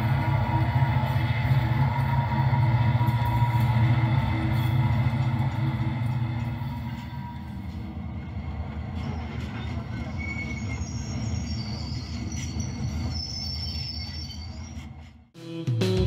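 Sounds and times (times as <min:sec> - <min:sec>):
model train rumbling on rails: 0:00.0 - 0:13.2.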